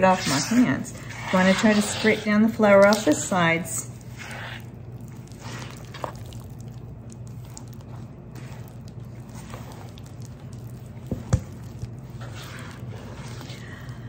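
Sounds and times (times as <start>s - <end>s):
hands squishing wet dough: 0.0s - 14.0s
steady low hum: 0.0s - 14.0s.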